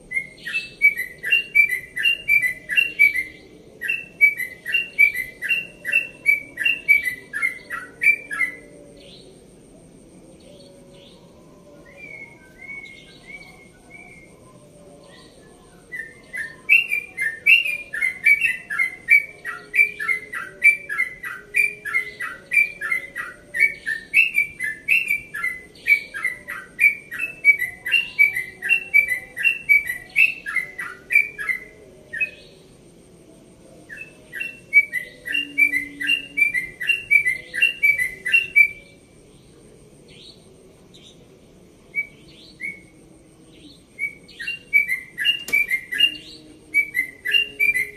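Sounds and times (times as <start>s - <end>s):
bird singing whistled notes: 0.0s - 32.8s, 33.8s - 41.2s, 41.8s - 47.9s.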